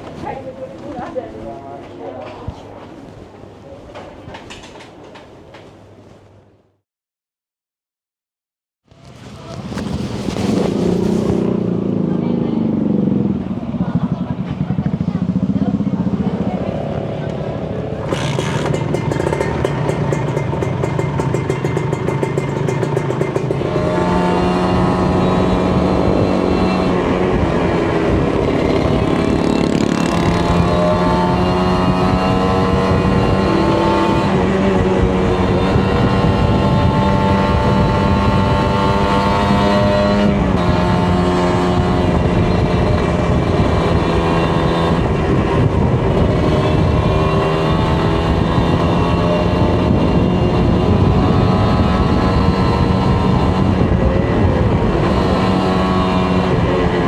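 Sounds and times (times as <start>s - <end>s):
motorcycle engine running: 9.2s - 57.0s.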